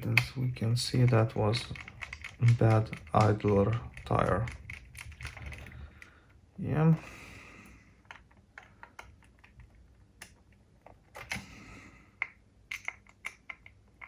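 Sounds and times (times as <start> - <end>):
small parts clicking and tapping: 0.0 - 6.4, 8.0 - 11.5, 12.1 - 14.0.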